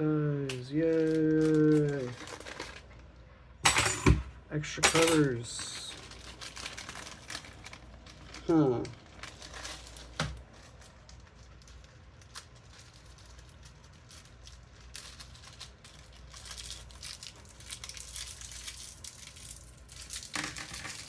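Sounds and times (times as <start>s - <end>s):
plastic bags crinkling: 0.8s - 3.0s, 5.2s - 21.0s.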